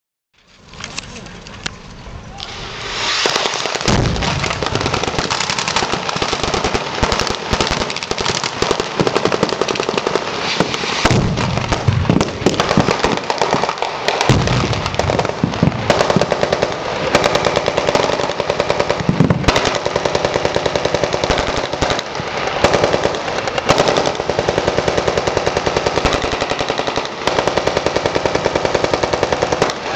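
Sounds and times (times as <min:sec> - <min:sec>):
rapid automatic gunfire: 0:03.3 - 0:29.9.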